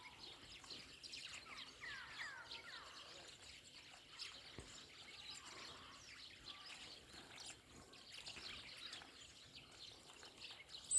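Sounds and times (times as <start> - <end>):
small songbirds chirping: 0.0 - 10.9.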